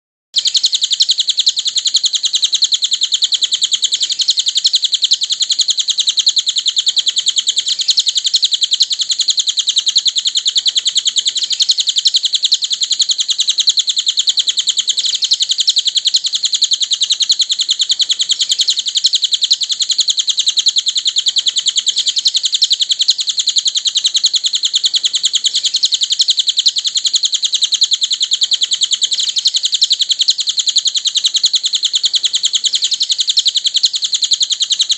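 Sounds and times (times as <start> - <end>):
bird chattering trill: 0.4 - 34.9.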